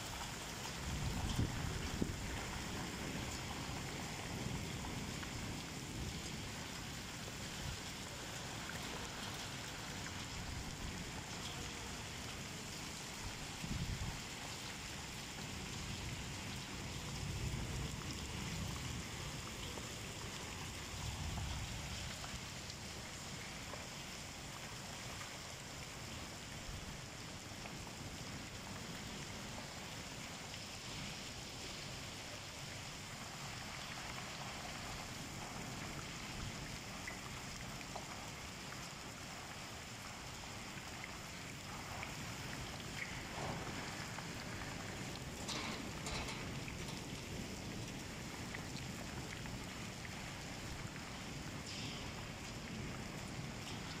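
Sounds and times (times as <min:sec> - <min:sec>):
heavy rain on water and pavement: 0:00.0 - 0:54.0.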